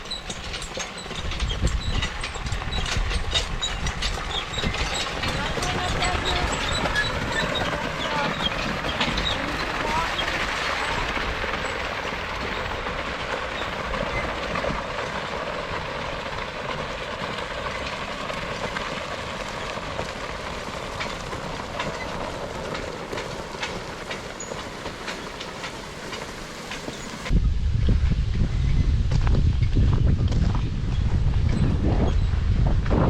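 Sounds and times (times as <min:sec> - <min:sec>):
steel track scraping over ground: 0:00.0 - 0:33.0.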